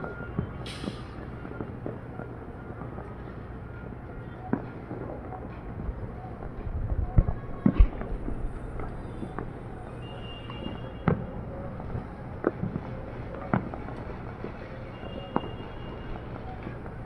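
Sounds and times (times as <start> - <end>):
small firework pops: 0.0 - 3.4, 4.4 - 5.8, 7.1 - 17.0
fireworks bangs: 0.0 - 17.0.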